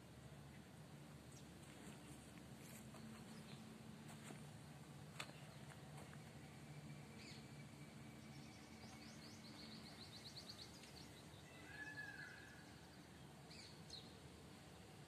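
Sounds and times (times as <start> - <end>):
faint low hum: 0.0 - 15.0
small birds chirping: 0.5 - 14.3.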